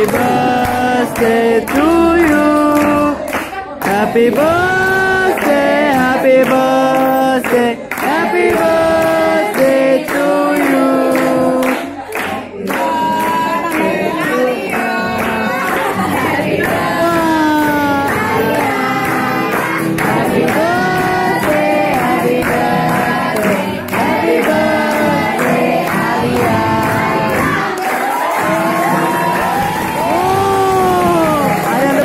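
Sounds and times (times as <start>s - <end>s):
group singing a birthday song: 0.0s - 32.0s
people clapping in time: 0.0s - 32.0s.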